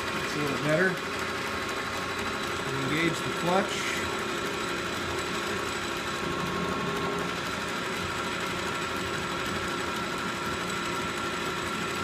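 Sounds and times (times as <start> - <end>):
lathe running: 0.0 - 12.0.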